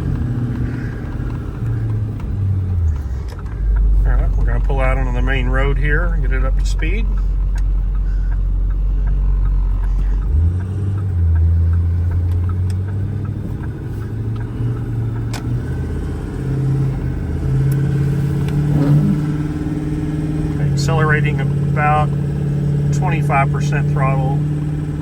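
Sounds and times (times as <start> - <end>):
diesel truck engine pulling away: 0.0 - 25.0.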